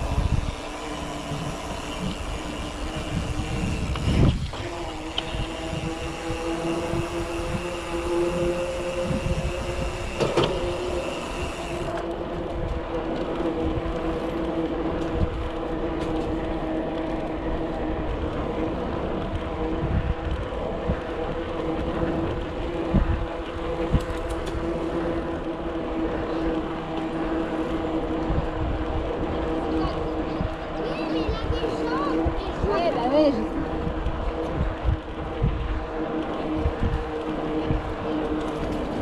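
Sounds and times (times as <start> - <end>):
bike tyres rolling: 0.0 - 39.0
wind rumbling on microphone: 0.0 - 39.0.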